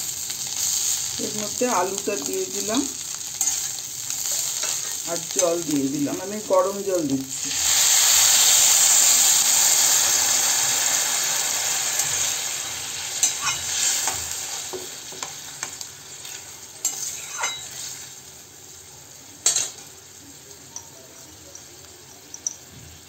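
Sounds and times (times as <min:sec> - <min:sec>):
water sizzling in hot pan: 0:00.0 - 0:23.0.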